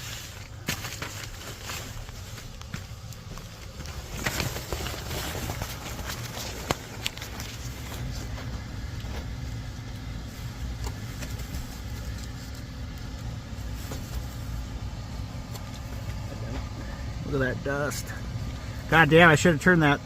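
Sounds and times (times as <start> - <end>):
furnace blower rumble and hum: 0.0 - 20.0.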